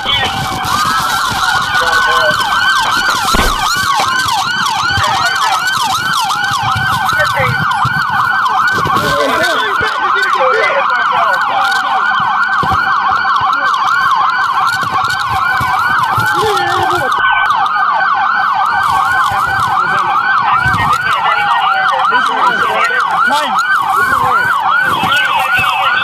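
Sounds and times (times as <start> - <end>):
police sirens yelping: 0.0 - 26.0.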